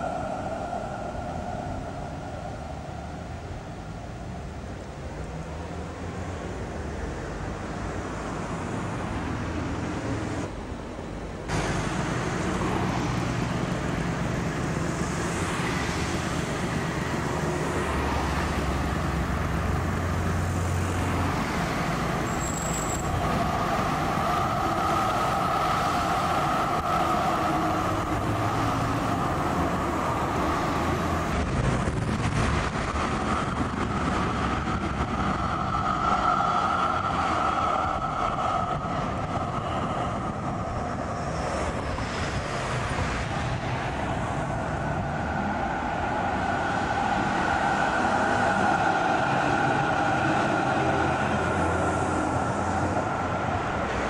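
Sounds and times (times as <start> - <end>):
cars driving past: 0.0 - 54.0
tram running along street: 0.0 - 54.0
tram whine: 0.0 - 54.0.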